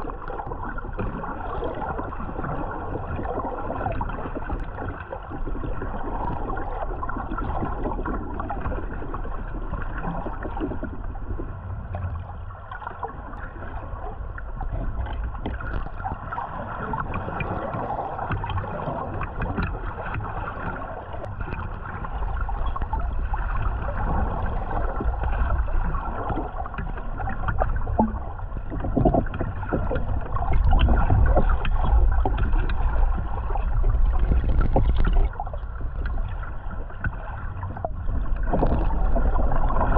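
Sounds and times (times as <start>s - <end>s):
muffled underwater water noise: 0.0s - 39.9s
water gurgling: 0.0s - 39.9s.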